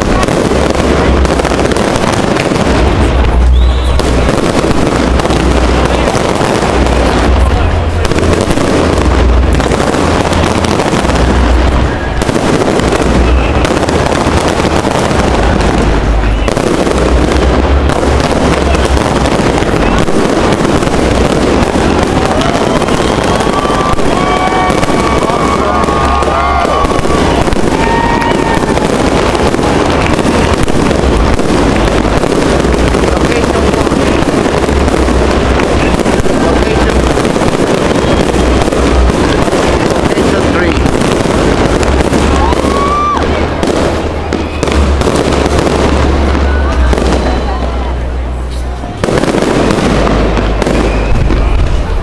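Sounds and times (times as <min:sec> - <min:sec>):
fireworks bursting and crackling: 0:00.0 - 0:52.0
steady low rumble: 0:00.0 - 0:52.0.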